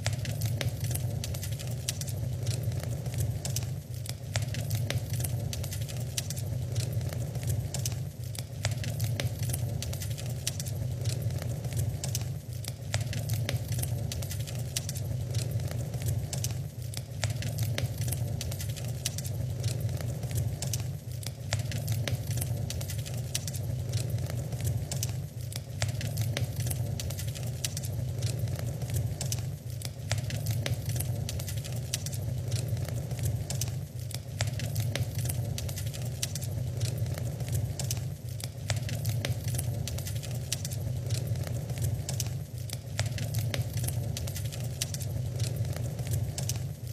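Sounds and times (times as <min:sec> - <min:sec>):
low fire rumble: 0:00.0 - 0:46.9
wood fire crackling and popping: 0:00.0 - 0:46.9.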